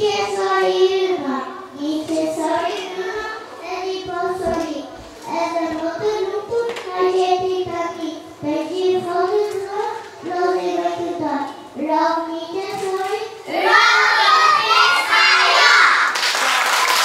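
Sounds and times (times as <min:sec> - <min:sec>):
children singing: 0:00.0 - 0:16.1.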